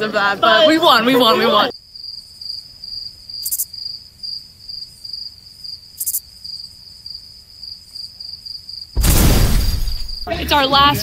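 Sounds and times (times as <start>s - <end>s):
crickets chirping: 0.0s - 10.8s.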